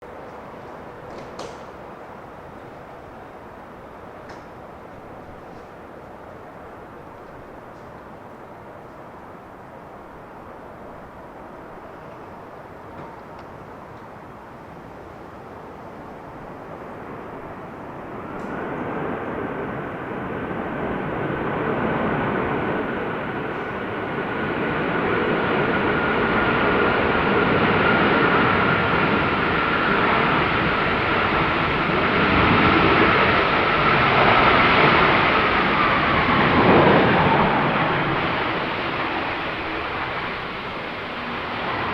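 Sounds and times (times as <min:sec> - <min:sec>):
high fan whine: 0:00.0 - 0:41.9
jet engines roaring: 0:00.0 - 0:41.9.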